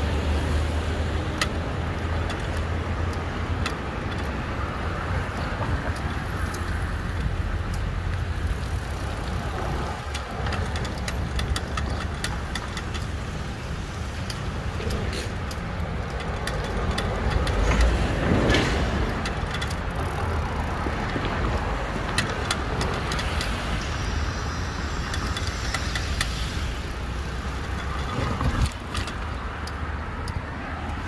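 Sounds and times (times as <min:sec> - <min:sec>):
car traffic: 0:00.0 - 0:31.0
wind and road noise: 0:00.0 - 0:31.0.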